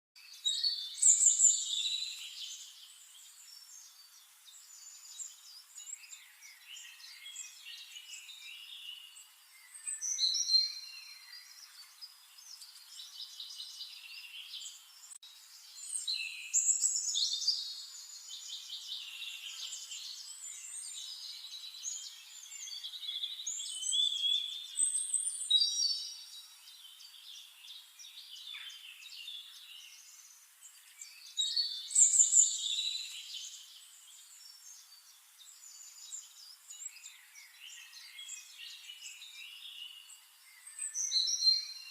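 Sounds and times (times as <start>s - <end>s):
songbirds singing: 0.2s - 41.9s.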